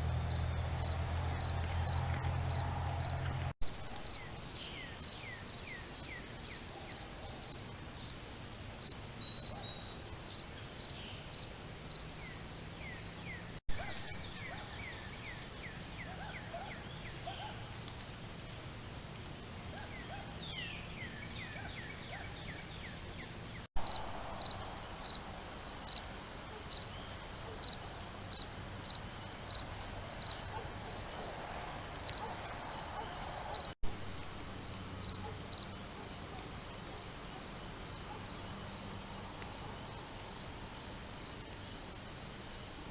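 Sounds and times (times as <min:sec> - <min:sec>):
cricket chirping: 0:00.1 - 0:08.2, 0:08.8 - 0:16.9, 0:21.0 - 0:42.9
faint insect chirps: 0:00.2 - 0:42.9.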